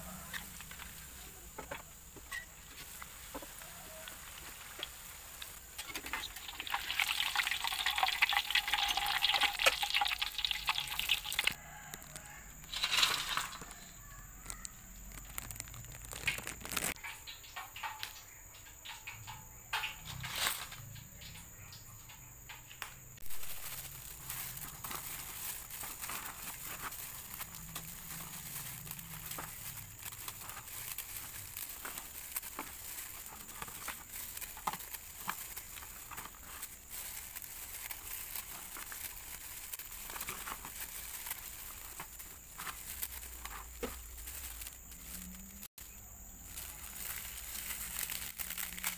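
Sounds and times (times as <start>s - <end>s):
dry noodles crackling and snapping: 0.0s - 13.8s, 14.4s - 21.4s, 22.5s - 48.9s
plastic crinkling: 0.0s - 18.0s, 23.2s - 48.9s.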